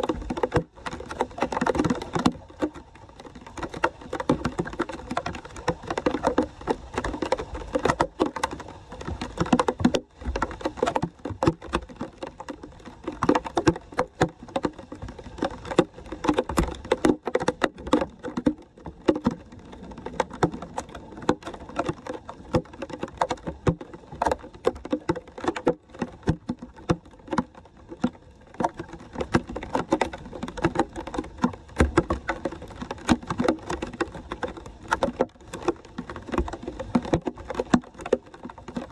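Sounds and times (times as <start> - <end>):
rain pattering on water: 0.0 - 38.9
water splashing over drain grate: 0.0 - 38.9.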